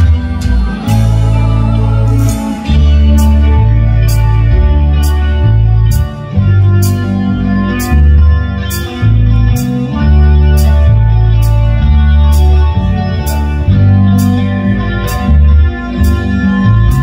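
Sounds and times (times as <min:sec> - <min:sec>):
electric guitar chords: 0:00.0 - 0:17.0
heavy bass notes: 0:00.0 - 0:17.0.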